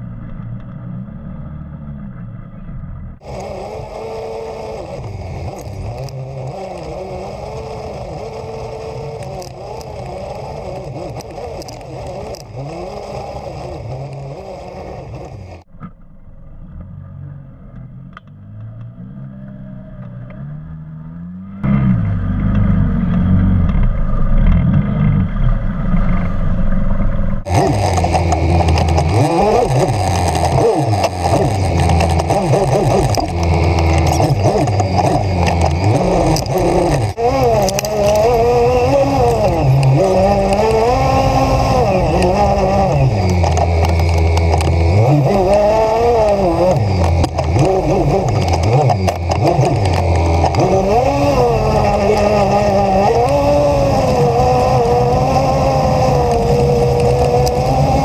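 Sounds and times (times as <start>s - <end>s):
off-road vehicle engine revving: 0.0s - 15.8s, 16.4s - 58.0s.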